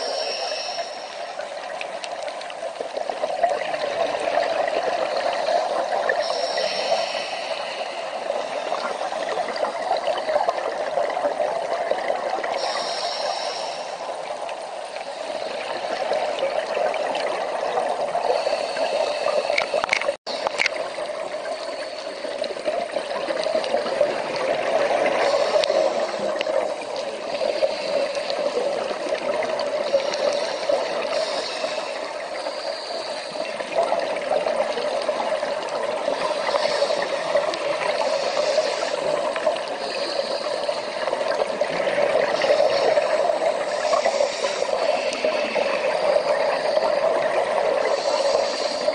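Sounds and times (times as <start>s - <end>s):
crackly underwater noise: 0.0s - 48.9s.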